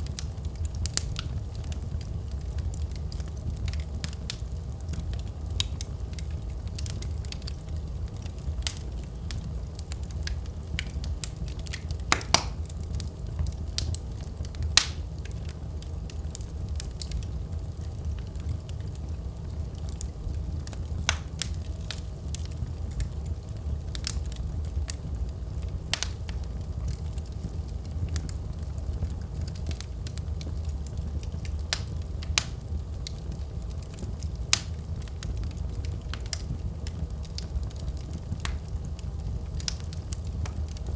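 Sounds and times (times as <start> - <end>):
fire crackles and pops: 0.0 - 40.9
low rumble of flames: 0.0 - 40.9.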